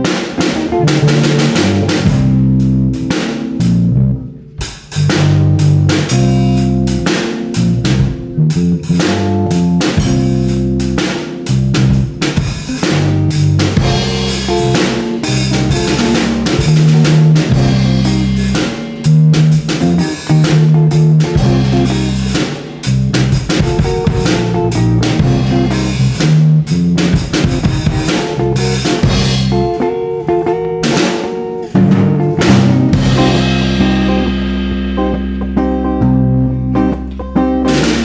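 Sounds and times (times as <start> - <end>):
band music with drums and guitar: 0.0 - 38.0.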